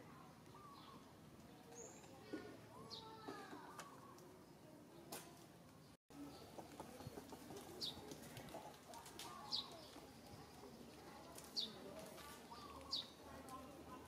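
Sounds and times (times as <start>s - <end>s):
soft outdoor background noise: 0.0s - 14.0s.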